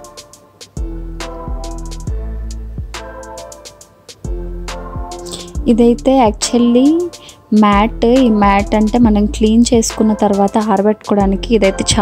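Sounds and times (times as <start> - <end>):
chords over drum beat: 0.0 - 12.0.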